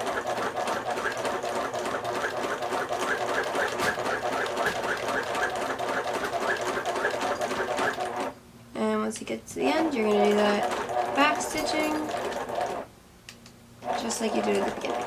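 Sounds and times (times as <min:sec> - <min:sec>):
sewing machine stitching: 0:00.0 - 0:08.4, 0:09.7 - 0:12.9, 0:13.8 - 0:15.0.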